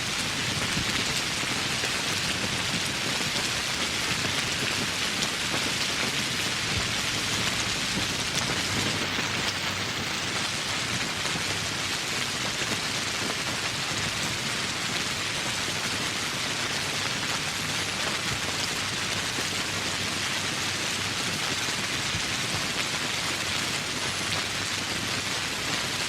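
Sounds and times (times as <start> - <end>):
heavy rain falling on leaves: 0.0 - 26.0.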